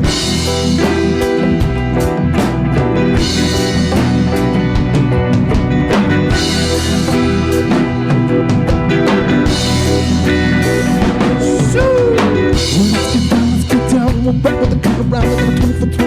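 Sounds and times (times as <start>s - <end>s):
drum kit steady beat: 0.0s - 16.0s
live band playing: 0.0s - 16.0s.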